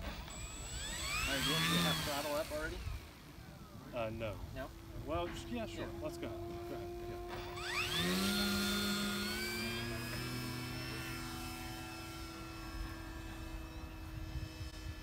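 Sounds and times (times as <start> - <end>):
model plane electric motor whine: 0.0 - 15.0.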